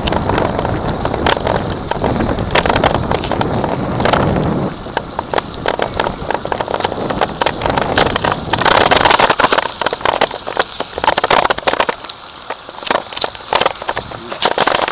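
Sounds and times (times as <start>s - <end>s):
bicycle clicks and rattles: 0.0s - 14.9s
bicycle tyres on rough asphalt: 0.0s - 14.9s
wind buffeting microphone: 0.0s - 14.9s.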